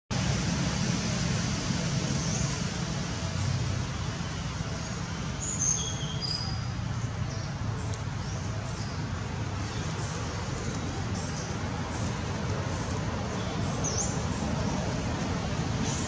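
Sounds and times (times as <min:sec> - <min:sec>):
low rumble and hiss: 0:00.1 - 0:16.0.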